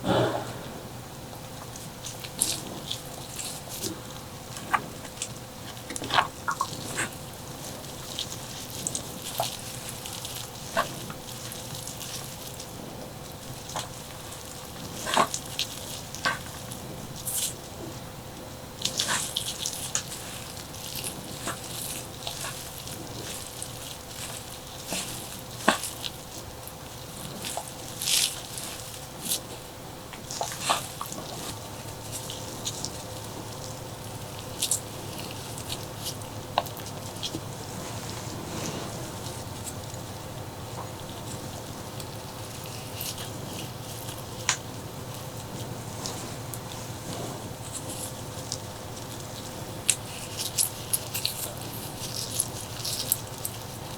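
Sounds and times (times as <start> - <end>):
faint steady hum: 0.0 - 53.9
person chewing crunchy food: 1.5 - 53.9.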